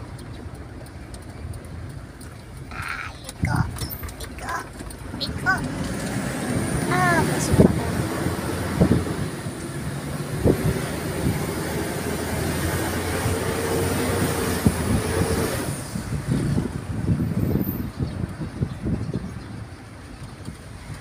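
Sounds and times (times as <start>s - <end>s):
car engine and tyre hum: 0.0s - 21.0s.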